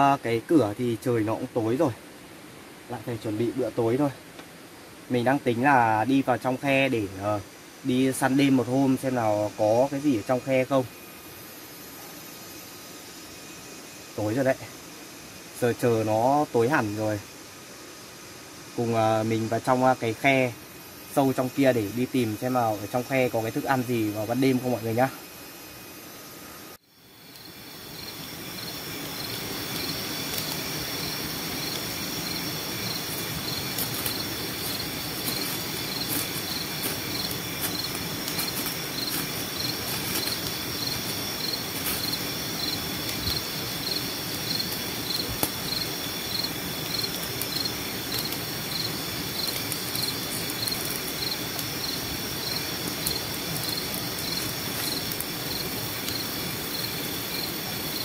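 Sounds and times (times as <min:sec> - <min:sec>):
crickets trilling: 0:00.0 - 0:58.0
pulsing insect chirp: 0:00.0 - 0:58.0.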